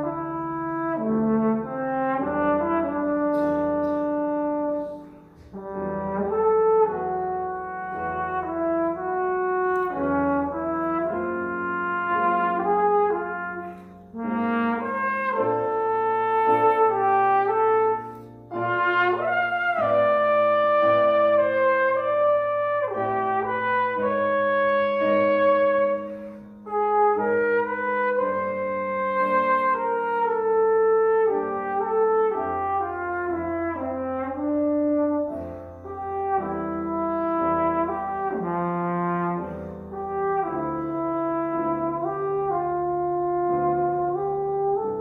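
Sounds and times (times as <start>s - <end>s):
held piano chords: 0.0s - 45.0s
trombone solo melody: 0.0s - 45.0s.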